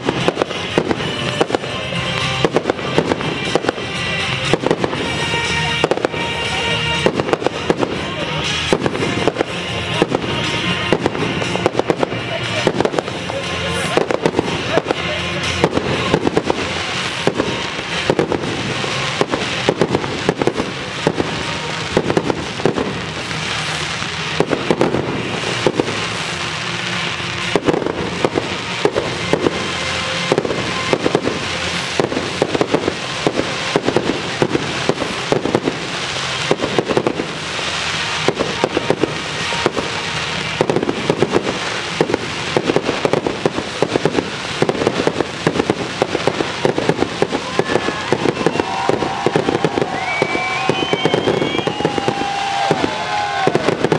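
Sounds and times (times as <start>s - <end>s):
fireworks crackling: 0.0s - 53.9s
fireworks launching and bursting: 0.0s - 53.9s
music: 0.0s - 53.9s.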